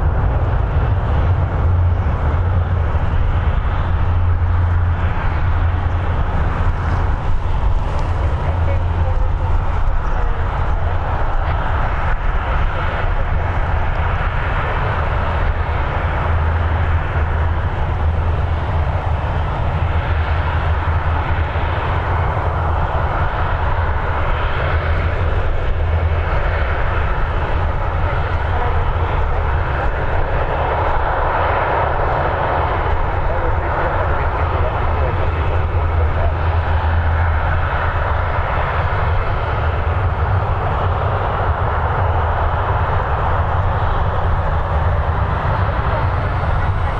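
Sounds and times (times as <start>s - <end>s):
jet engines rumbling: 0.0s - 46.9s.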